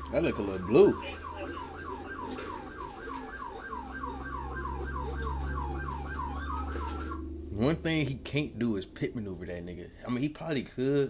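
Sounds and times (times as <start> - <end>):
police siren yelping: 0.0 - 10.1
car engine rumbling: 0.0 - 11.0.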